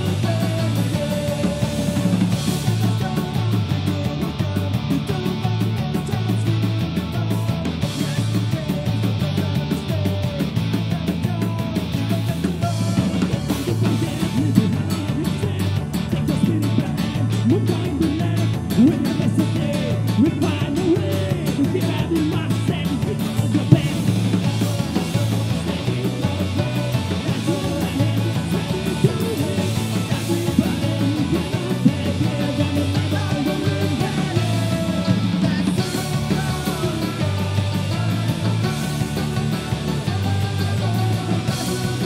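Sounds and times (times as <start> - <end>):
drum kit: 0.0 - 42.0
man singing: 0.0 - 42.0.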